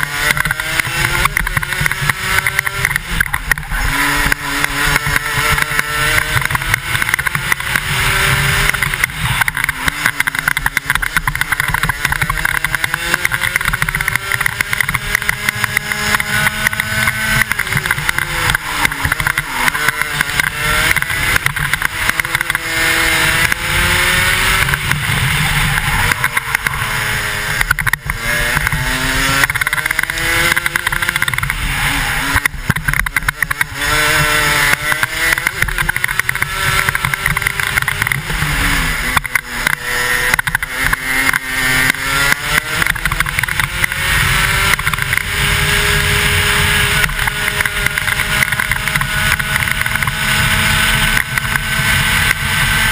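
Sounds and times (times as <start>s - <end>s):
kart engine at racing speed: 0.0s - 52.9s.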